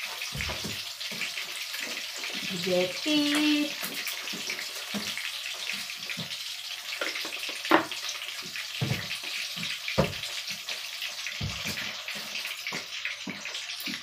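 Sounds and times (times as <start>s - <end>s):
patties sizzling in hot oil: 0.0s - 14.0s.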